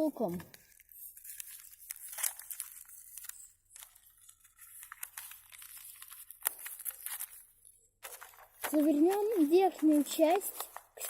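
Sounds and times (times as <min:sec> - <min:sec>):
paper rustling and crinkling: 0:00.2 - 0:11.0.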